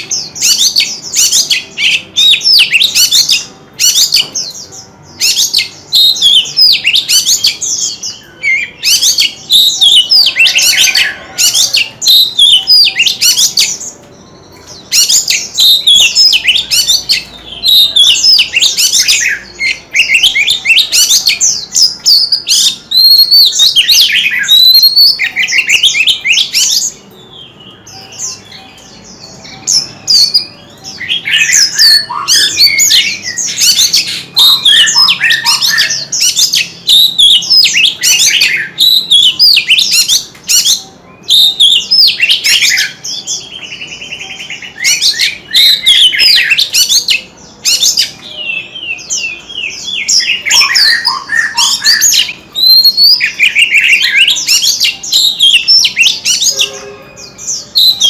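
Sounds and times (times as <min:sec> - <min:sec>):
bird singing whistled notes: 0:00.0 - 0:58.0.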